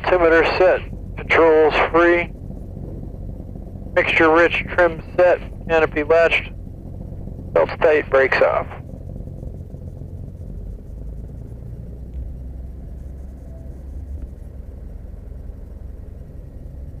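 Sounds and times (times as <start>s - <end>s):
aircraft engine low rumble: 0.0s - 17.0s.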